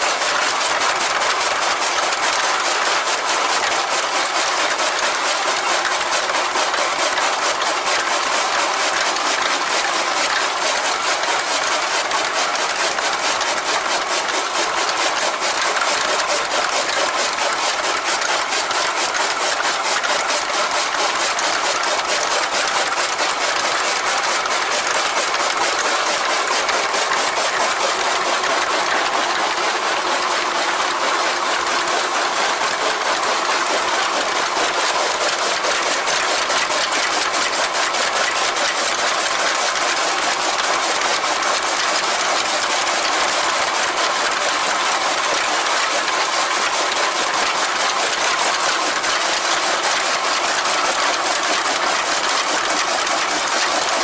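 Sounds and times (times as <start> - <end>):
chaff cutter chopping fodder: 0.0 - 54.0.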